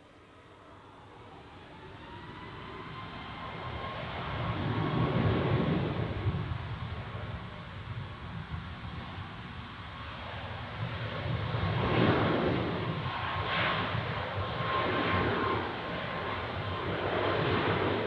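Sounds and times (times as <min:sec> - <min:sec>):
jet engines at takeoff thrust: 0:00.0 - 0:18.0.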